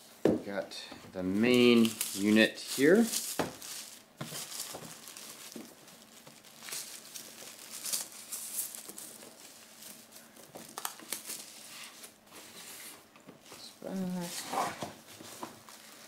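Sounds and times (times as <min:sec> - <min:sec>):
plastic wrapping crinkling: 0:01.2 - 0:16.0.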